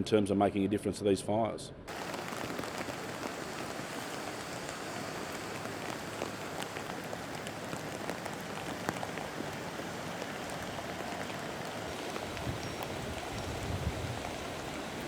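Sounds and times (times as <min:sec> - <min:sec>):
rain pattering on hard surfaces: 0:01.9 - 0:15.0.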